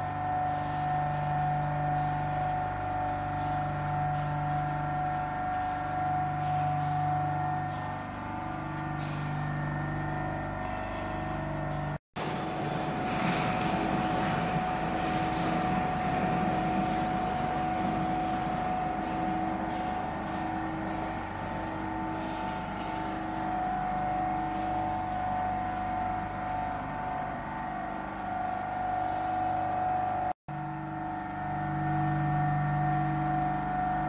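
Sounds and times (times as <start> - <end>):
industrial machinery hum: 0.0 - 34.0.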